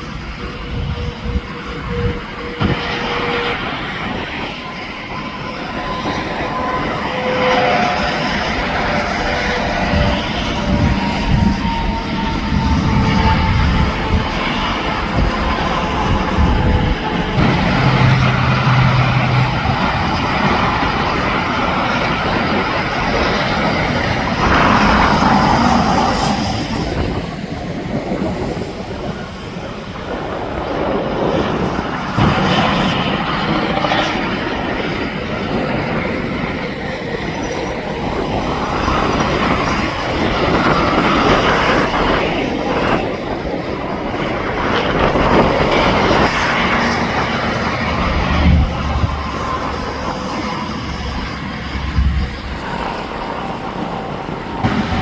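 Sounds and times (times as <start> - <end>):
trucks passing on highway: 0.0 - 55.0.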